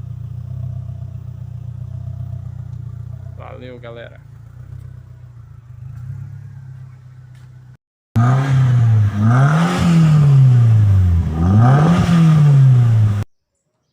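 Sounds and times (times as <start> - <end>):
car engine idling and revving: 0.0 - 13.3.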